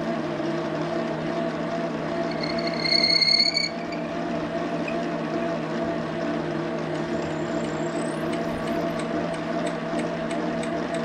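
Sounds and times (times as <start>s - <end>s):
metal lathe humming: 0.0s - 10.7s.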